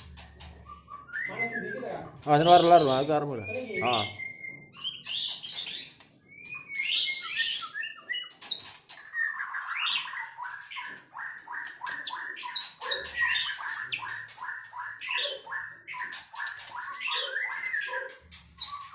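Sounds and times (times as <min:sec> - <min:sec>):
bird singing whistles and chatter: 0:00.0 - 0:18.9.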